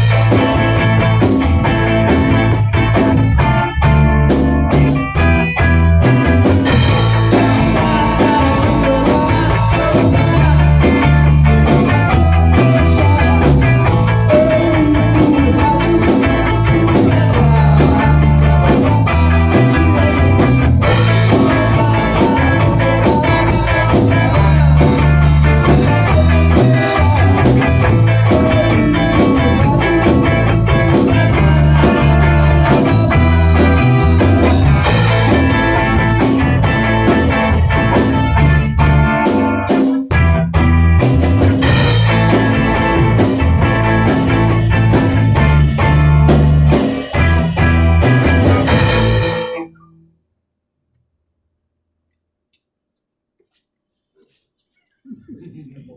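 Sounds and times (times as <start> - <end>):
drum kit: 0.0 - 49.7
electric guitar: 0.0 - 50.1
bass guitar: 0.0 - 50.2.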